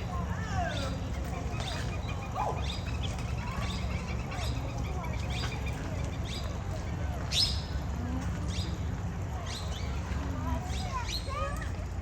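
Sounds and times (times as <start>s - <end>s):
birds chirping: 0.0s - 11.7s.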